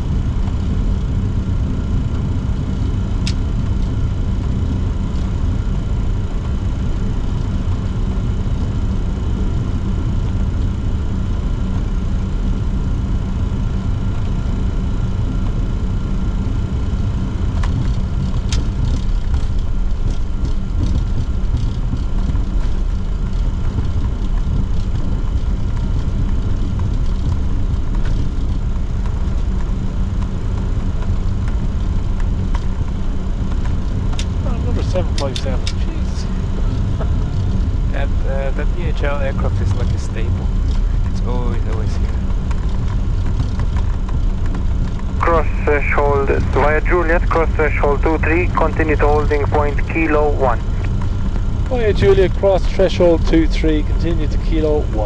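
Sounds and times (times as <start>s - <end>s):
jet engines and air conditioning hum: 0.0s - 55.0s.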